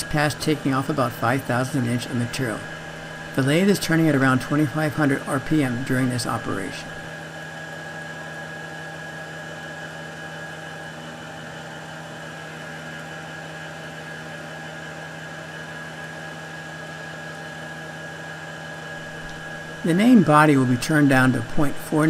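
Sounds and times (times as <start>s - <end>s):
lathe spindle hum and whine: 0.0s - 22.0s.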